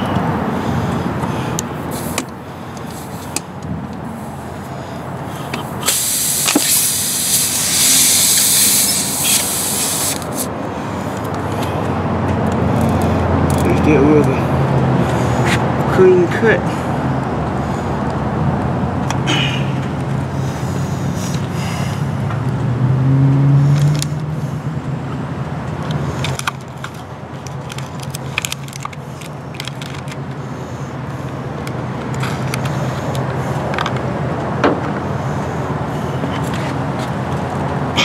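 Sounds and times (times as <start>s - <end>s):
low vehicle hum: 0.0s - 38.0s.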